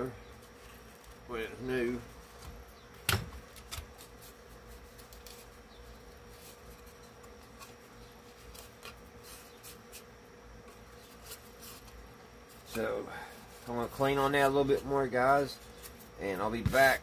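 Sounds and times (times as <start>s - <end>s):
steady buzzing hum: 0.0s - 17.0s.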